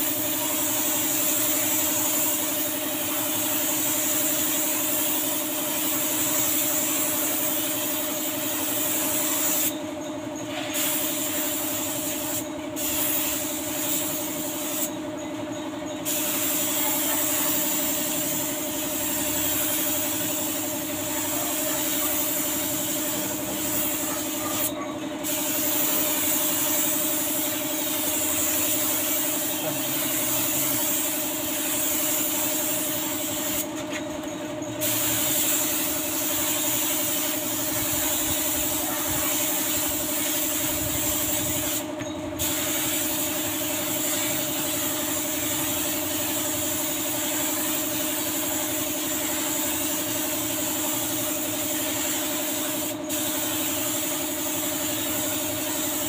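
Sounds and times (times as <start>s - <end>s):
spray gun hissing: 0.0s - 9.8s, 10.5s - 15.0s, 16.0s - 33.9s, 34.8s - 56.0s.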